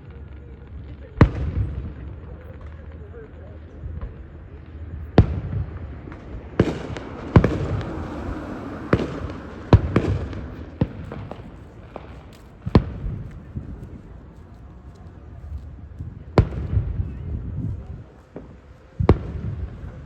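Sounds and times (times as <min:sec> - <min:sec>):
fireworks bursting with rumbling echo: 0:00.0 - 0:20.0.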